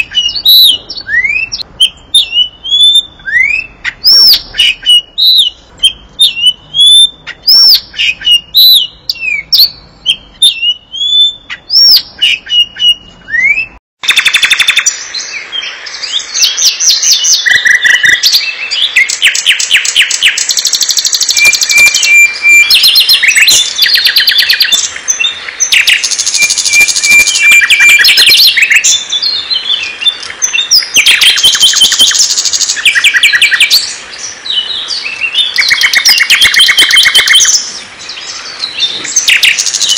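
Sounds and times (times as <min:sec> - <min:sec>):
bird whistling swooping notes: 0:00.0 - 0:39.9
nightingale singing trills: 0:00.0 - 0:39.9.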